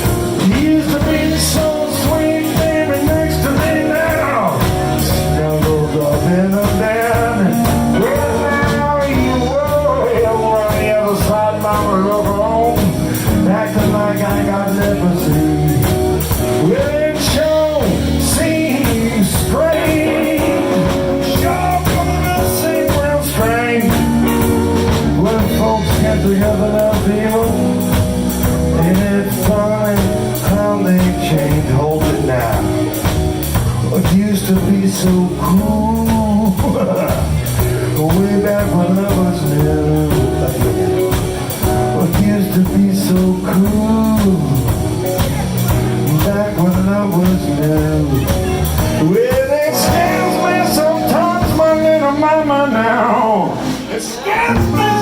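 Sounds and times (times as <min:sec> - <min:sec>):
blues band playing: 0:00.0 - 0:55.0
person singing: 0:00.0 - 0:55.0.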